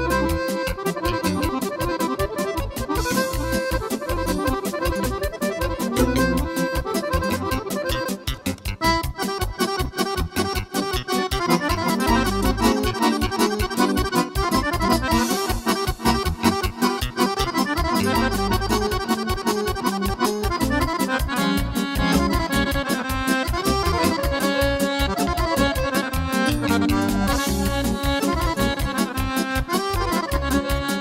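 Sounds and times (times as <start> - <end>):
accordion playing fast tune: 0.0 - 31.0
keyboard backing with beat: 0.0 - 31.0.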